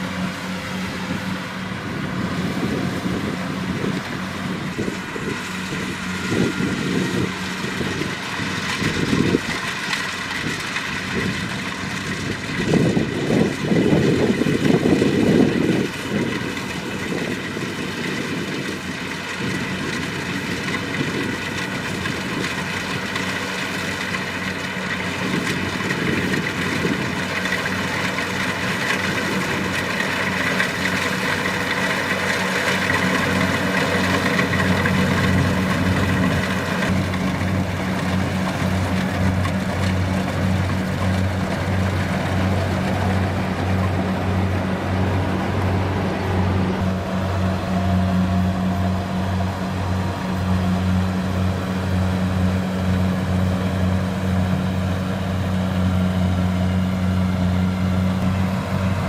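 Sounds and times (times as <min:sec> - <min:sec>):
diesel engine running: 0:00.0 - 0:59.0
threshing machinery whine: 0:00.0 - 0:59.0.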